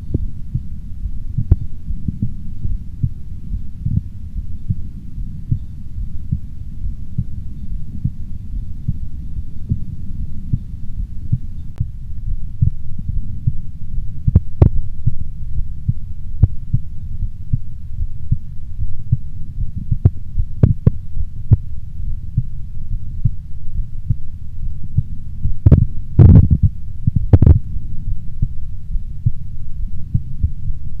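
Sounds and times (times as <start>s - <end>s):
heartbeat through stethoscope: 0.0s - 21.7s, 24.9s - 27.8s, 28.4s - 30.8s.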